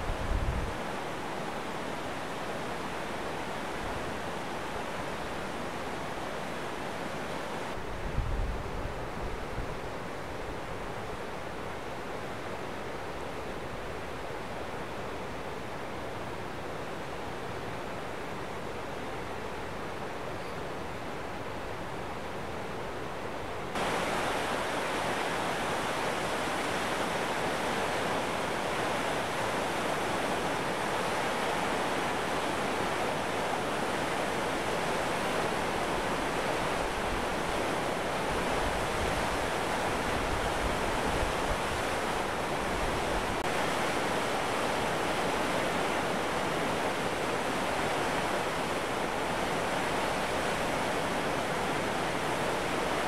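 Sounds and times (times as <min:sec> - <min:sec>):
water rushing over a dam: 0:00.0 - 0:53.0.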